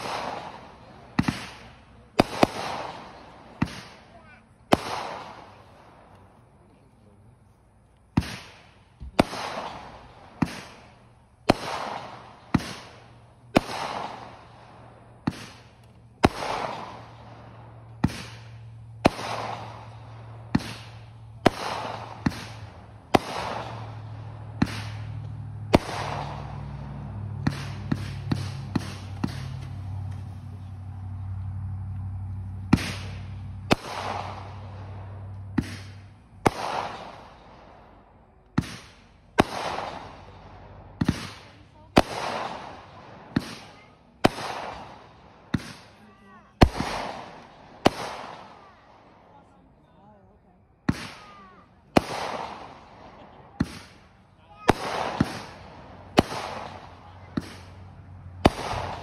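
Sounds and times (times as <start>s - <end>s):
fireworks bangs with crackling: 0.0s - 6.4s, 8.0s - 50.1s, 50.8s - 59.0s
low steady hum: 0.0s - 59.0s.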